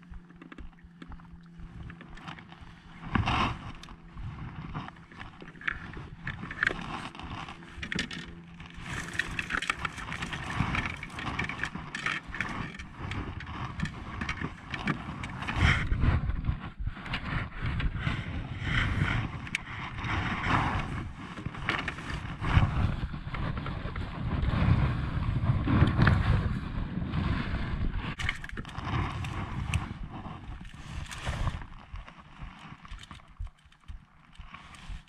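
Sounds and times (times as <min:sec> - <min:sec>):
knocks and rustles in kayak: 0:00.0 - 0:35.0
wind buffeting microphone: 0:00.0 - 0:35.0.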